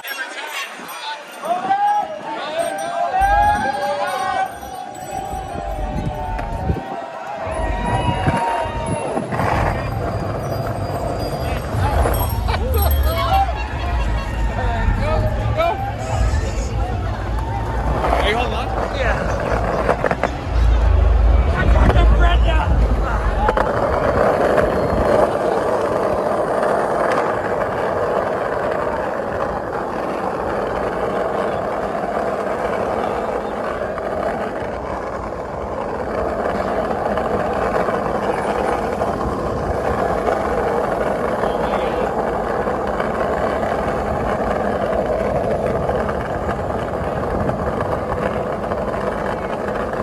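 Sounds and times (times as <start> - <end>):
skate wheels rolling on pavement: 0.0 - 50.0.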